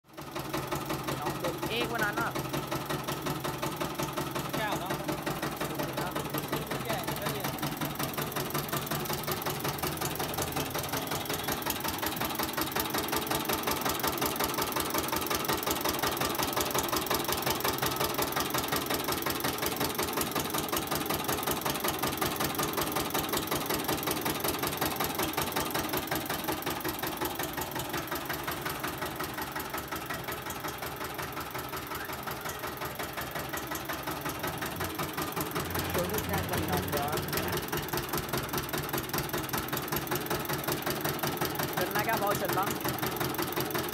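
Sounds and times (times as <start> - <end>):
sugarcane crusher engine knocking: 0.1 - 43.9.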